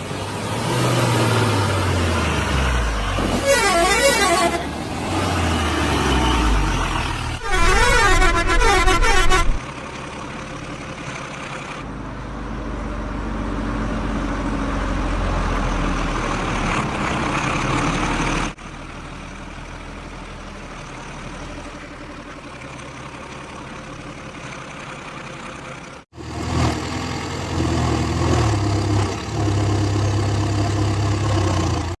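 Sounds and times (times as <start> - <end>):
heavy diesel engines running: 0.0 - 32.0.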